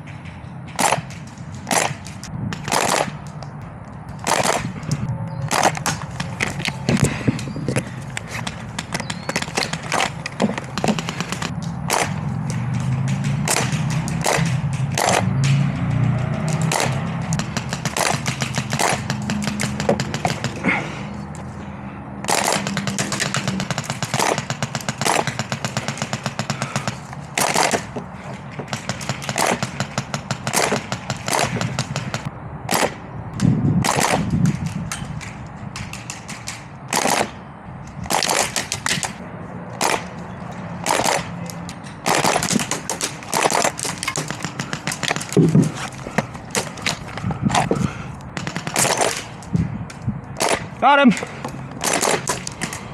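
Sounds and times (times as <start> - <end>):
airsoft guns firing: 0.6 - 3.4, 4.1 - 21.1, 22.2 - 33.1, 33.8 - 49.6, 50.4 - 52.9.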